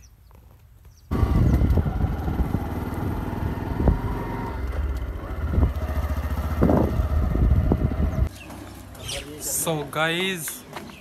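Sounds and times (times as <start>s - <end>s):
motorcycle engine rumble: 1.1s - 10.0s.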